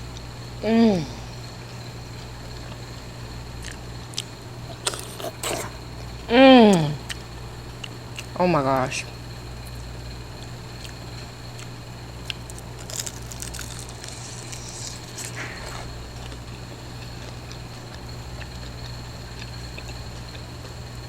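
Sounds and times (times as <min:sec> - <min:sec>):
steady low hum: 0:00.0 - 0:21.0
crunchy chewing: 0:01.6 - 0:08.4, 0:09.0 - 0:21.0.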